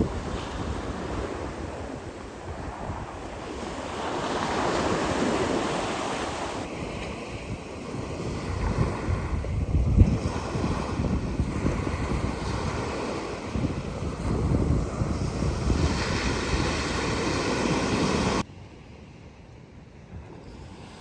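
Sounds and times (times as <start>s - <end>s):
wind gusting on microphone: 0.0s - 20.9s
sea waves washing in: 0.0s - 21.0s.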